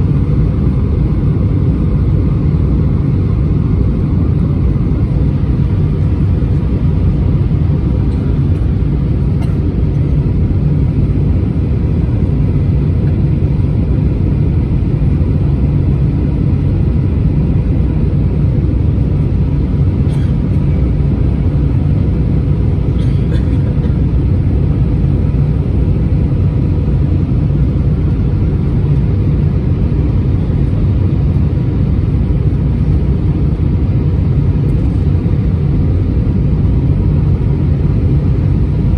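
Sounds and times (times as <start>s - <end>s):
airplane cabin engine drone: 0.0s - 38.9s
faint steady hum: 0.0s - 38.9s.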